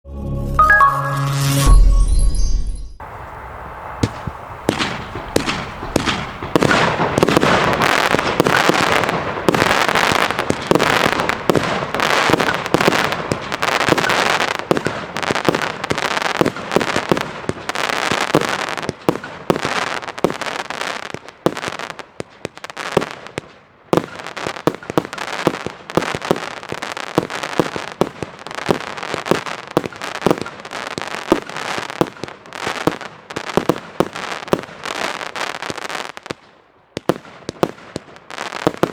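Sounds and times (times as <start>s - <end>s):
firework cake barrage: 3.0s - 38.9s
firework crackle: 3.0s - 38.9s.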